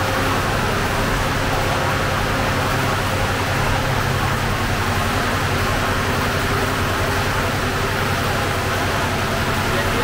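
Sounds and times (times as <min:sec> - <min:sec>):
oven and extractor hood humming: 0:00.0 - 0:10.0.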